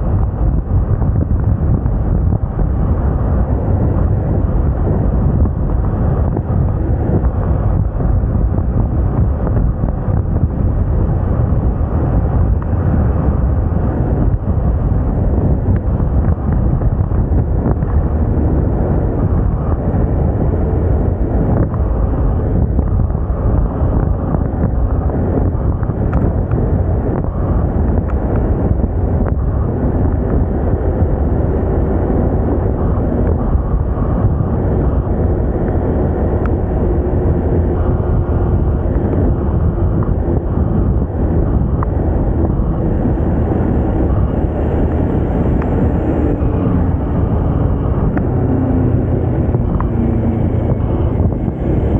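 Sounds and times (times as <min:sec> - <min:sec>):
wind rush on microphone: 0:00.0 - 0:51.9.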